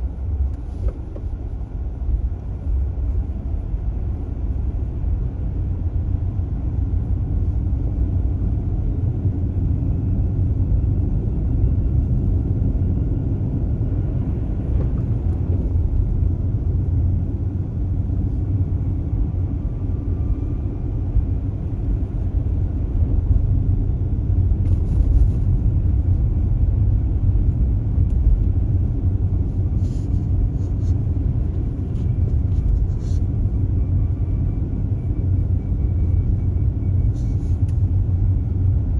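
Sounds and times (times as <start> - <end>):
road and tyre rumble: 0.0 - 38.9.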